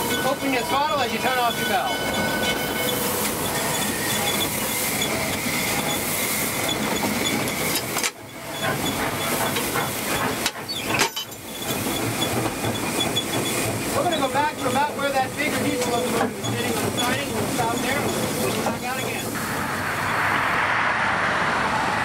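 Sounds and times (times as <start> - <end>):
steam hissing: 0.0 - 22.0
train wheels rolling on rails: 0.0 - 22.0.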